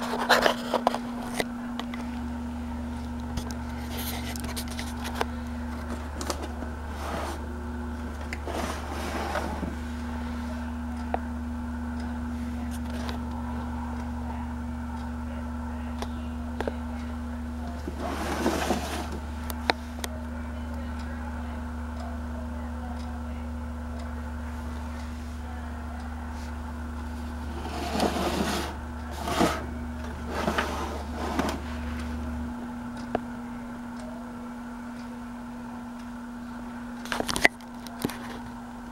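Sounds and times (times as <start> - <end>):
electric motor humming: 0.0 - 37.2.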